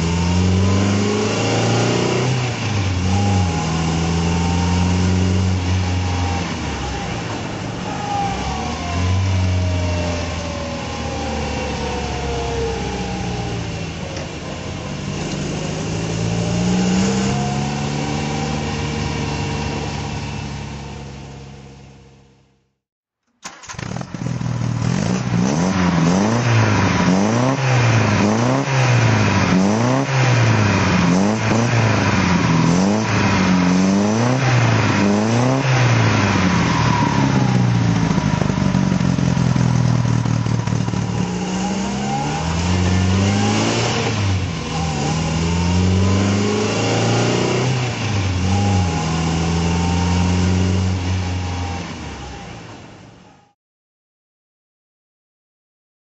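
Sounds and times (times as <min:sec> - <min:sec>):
car engine revving: 0:00.0 - 0:22.1, 0:23.4 - 0:53.0.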